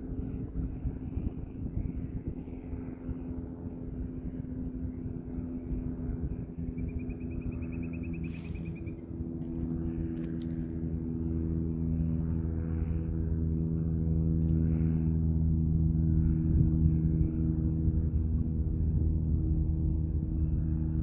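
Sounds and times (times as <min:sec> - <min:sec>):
aircraft engines droning: 0:00.0 - 0:21.0.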